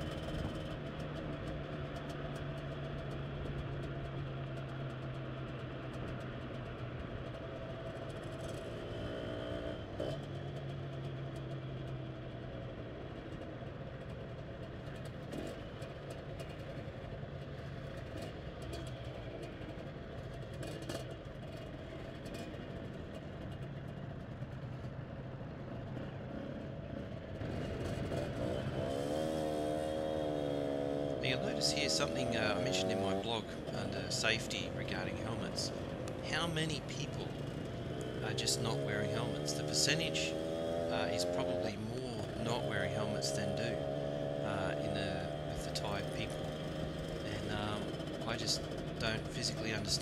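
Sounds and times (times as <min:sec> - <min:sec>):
cars and scooters passing: 0:00.0 - 0:50.0
motorbike engine hum: 0:00.0 - 0:50.0.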